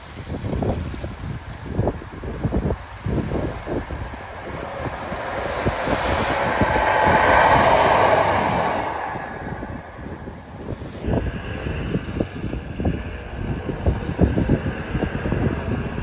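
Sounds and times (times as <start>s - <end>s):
wind buffeting microphone: 0.0s - 16.0s
diesel train passing at speed: 0.9s - 16.0s.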